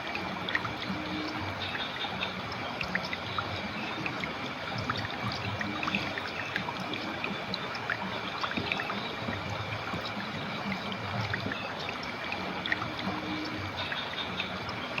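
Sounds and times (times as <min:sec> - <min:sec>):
river water flowing: 0:00.0 - 0:15.0
small splashes and gurgles: 0:00.0 - 0:15.0.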